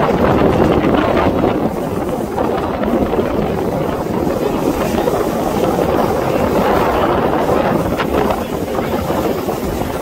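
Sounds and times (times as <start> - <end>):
jet formation roaring overhead: 0.0 - 10.0
wind buffeting microphone: 0.0 - 10.0.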